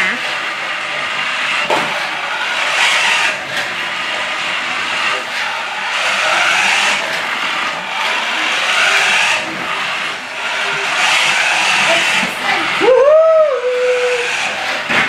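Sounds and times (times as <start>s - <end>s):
tyres on wooden floor: 0.0s - 12.8s, 14.2s - 15.0s
toy car electric motor whirring: 0.0s - 15.0s.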